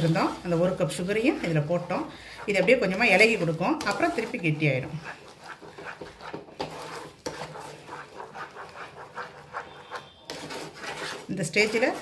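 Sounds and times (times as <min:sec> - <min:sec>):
wooden spatula scraping a pan: 0:00.0 - 0:12.0.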